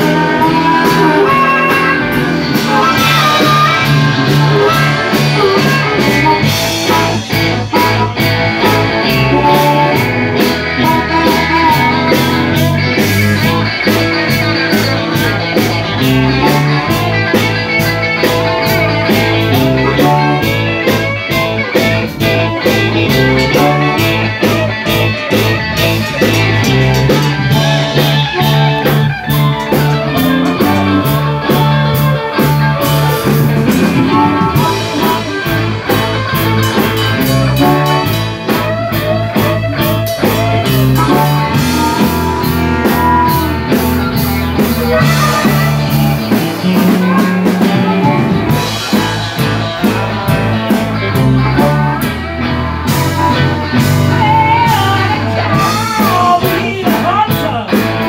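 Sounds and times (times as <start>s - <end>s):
bass line: 0.0s - 58.0s
drums: 0.0s - 58.0s
electric guitars: 0.0s - 58.0s.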